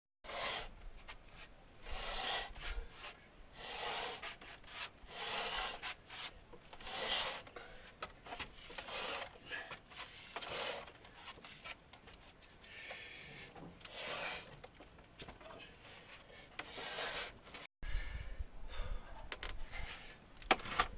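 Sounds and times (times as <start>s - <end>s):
wooden cradle scraping over planks: 0.3s - 17.7s.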